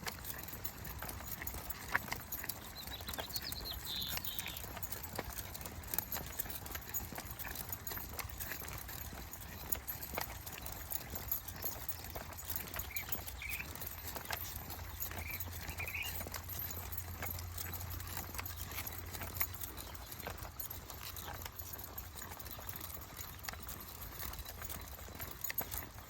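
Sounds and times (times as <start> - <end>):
footsteps and paws on trail: 0.0 - 26.0.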